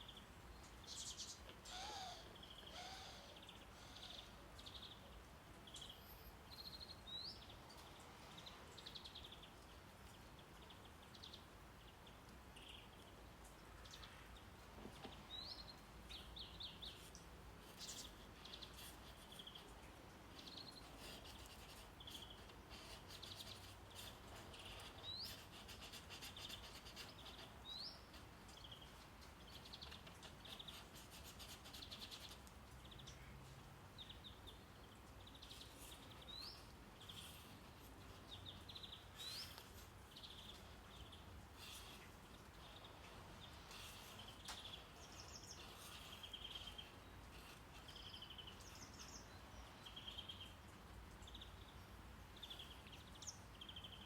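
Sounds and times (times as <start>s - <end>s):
faint birdsong: 0.0s - 54.0s
low steady hiss: 0.0s - 54.0s.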